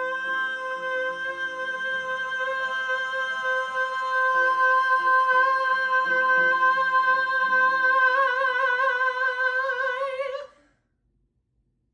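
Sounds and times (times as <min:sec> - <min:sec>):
lower musical accompaniment: 0:00.0 - 0:10.1
man singing a long high note: 0:00.0 - 0:10.4.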